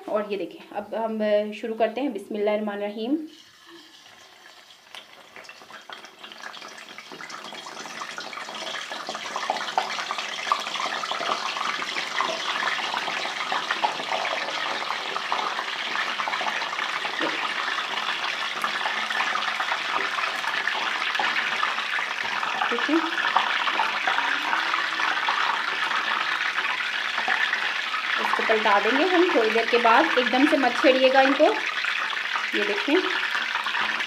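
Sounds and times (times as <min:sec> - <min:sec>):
batter sizzling in hot fat: 0:03.2 - 0:34.0.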